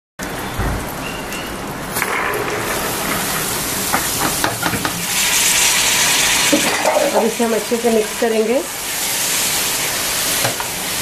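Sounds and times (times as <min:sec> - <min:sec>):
beans sizzling in a pot: 0:01.9 - 0:11.0.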